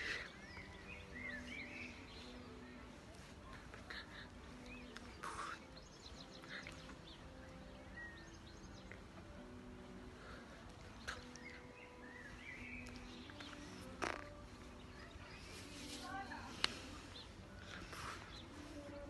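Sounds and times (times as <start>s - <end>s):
low steady background: 0.0s - 19.0s
small birds chirping: 0.0s - 19.0s.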